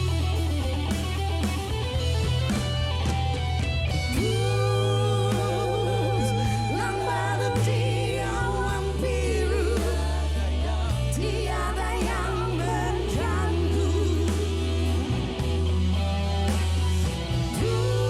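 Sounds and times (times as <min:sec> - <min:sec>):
live pop-rock band music: 0:00.0 - 0:18.0.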